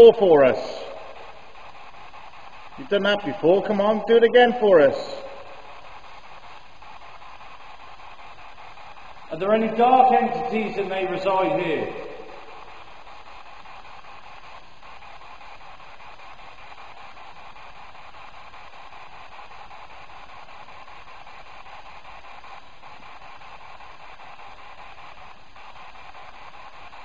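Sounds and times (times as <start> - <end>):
static hiss: 0.0 - 27.0.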